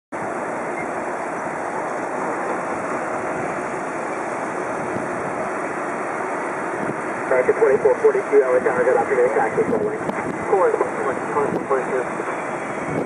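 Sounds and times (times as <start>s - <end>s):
jet engines rushing: 0.2s - 13.0s.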